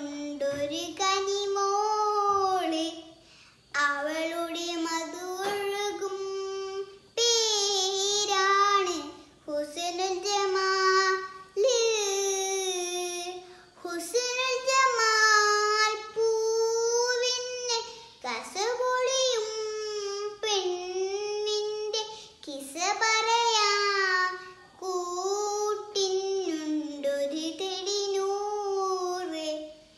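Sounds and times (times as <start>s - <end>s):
girl singing unaccompanied: 0.0s - 29.9s.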